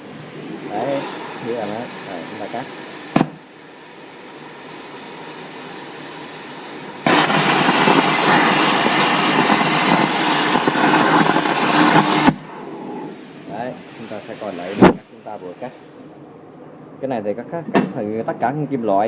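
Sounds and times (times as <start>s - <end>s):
plasma arc cutting steel: 0.0s - 12.4s, 13.1s - 16.0s
compressed air hissing from torch: 0.0s - 16.2s.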